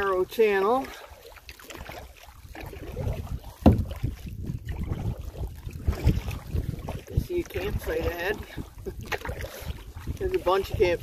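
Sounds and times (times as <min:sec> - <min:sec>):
canoe paddling: 0:00.0 - 0:11.0
wind rumbling on microphone: 0:00.0 - 0:11.0.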